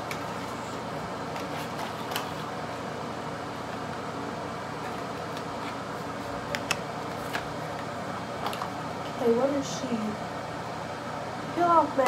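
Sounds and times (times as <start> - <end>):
mechanical background hum: 0.0 - 12.0.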